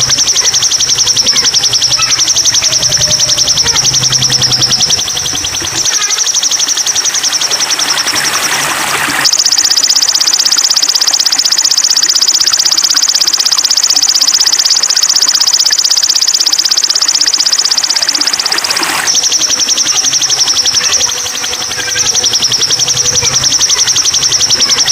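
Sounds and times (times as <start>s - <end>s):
high-pitched buzzy bird trill: 0.0s - 24.9s.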